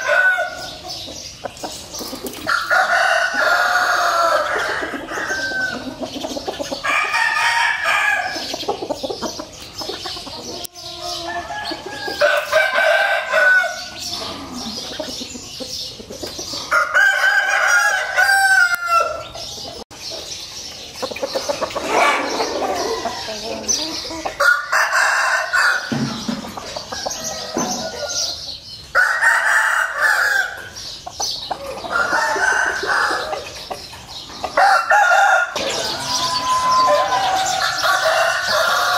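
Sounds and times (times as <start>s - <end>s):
roosters crowing: 0.0s - 15.8s, 16.4s - 19.8s, 21.1s - 38.9s
chickens clucking: 0.0s - 38.9s.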